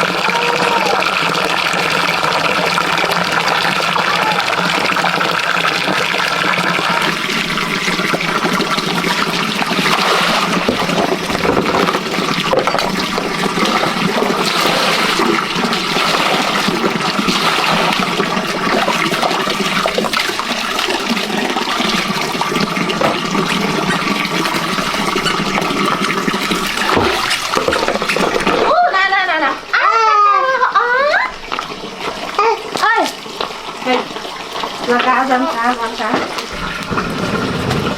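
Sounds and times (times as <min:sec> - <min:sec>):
running water rushing: 0:00.0 - 0:37.9.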